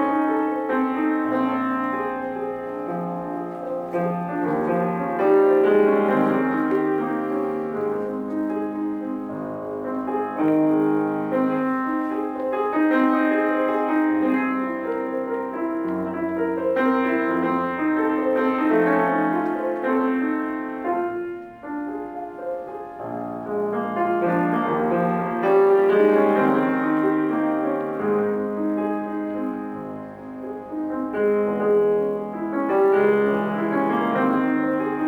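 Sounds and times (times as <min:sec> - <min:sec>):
solo classical piano: 0:00.0 - 0:35.0.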